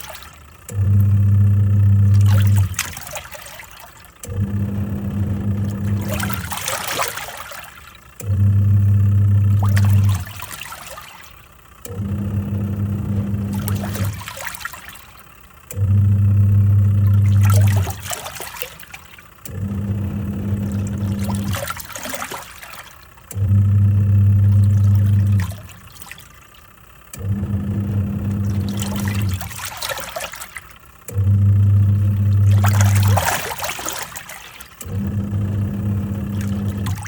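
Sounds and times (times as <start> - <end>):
water and clothes sloshing: 0.0 - 1.2, 2.0 - 8.6, 9.4 - 11.5, 12.8 - 15.2, 16.8 - 26.6, 27.3 - 37.0
washing machine motor humming: 0.0 - 37.0.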